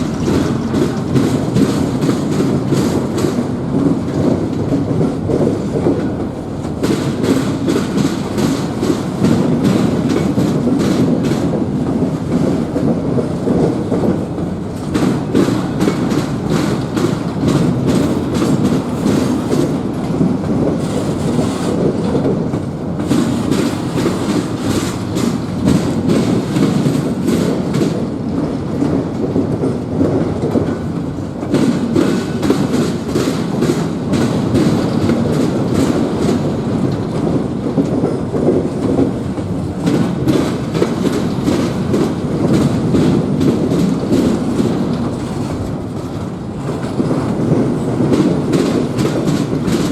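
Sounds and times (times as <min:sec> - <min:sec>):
train cars rumbling past: 0:00.0 - 0:49.9
wheels clacking over rail joints: 0:00.0 - 0:49.9.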